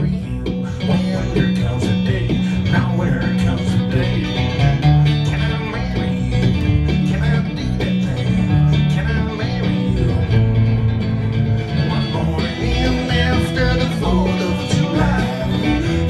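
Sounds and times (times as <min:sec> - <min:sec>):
acoustic guitar: 0:00.0 - 0:16.0
double bass plucking: 0:00.0 - 0:16.0.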